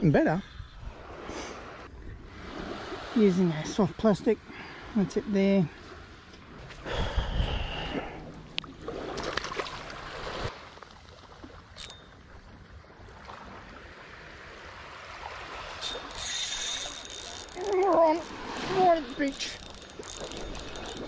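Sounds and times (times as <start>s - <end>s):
small waves lapping on sand: 0.9s - 6.9s, 7.8s - 21.0s.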